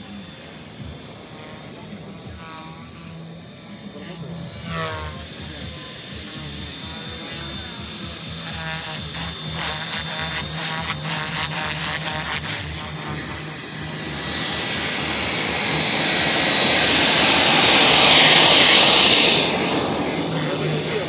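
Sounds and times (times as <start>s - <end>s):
model helicopter rotor hum: 0.0s - 21.0s
model jet engine whine: 0.0s - 21.0s.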